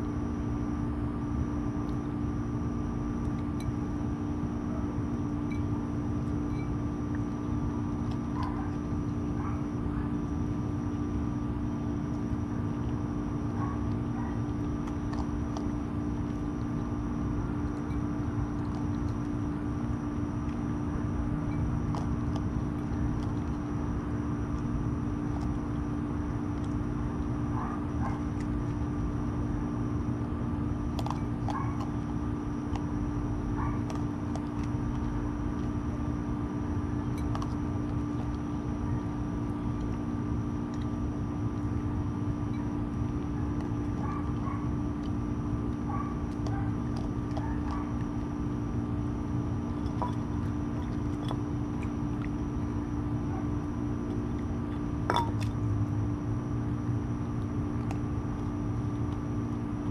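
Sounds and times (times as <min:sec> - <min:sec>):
low mechanical hum: 0:00.0 - 0:59.9
raccoon crunching dry kibble: 0:00.0 - 0:59.9.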